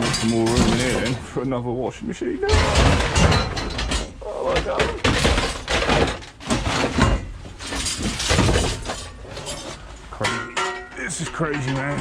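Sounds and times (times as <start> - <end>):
scrap metal clattering and banging: 0.0 - 1.7, 2.4 - 12.0.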